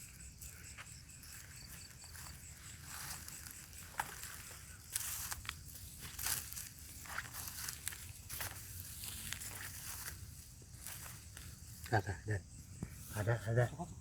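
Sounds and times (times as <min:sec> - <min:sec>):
footsteps through dry grass: 0:00.1 - 0:12.0.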